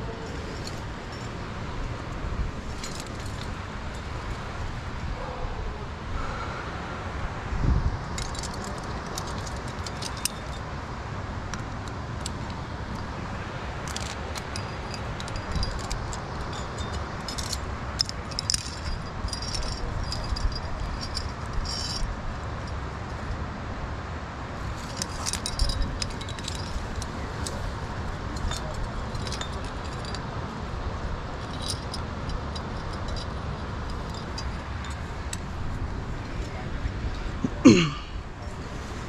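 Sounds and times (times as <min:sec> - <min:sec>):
metal climbing gear clinking: 0:00.0 - 0:05.3, 0:08.0 - 0:10.8, 0:11.5 - 0:23.4, 0:24.6 - 0:38.0
steady low rumble: 0:00.0 - 0:39.0.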